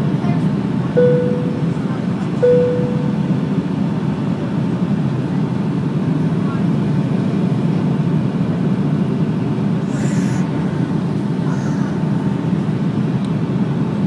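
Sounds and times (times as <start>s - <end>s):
jet engine and airflow roar: 0.0s - 14.0s.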